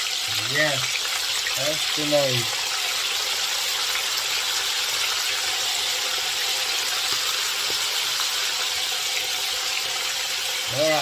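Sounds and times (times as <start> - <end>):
calamari deep-frying in oil: 0.0 - 11.0.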